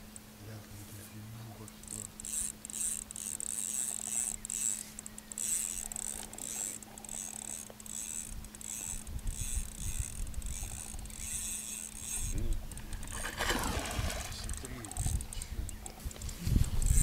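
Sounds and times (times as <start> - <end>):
fishing reel ratcheting: 1.7 - 17.0.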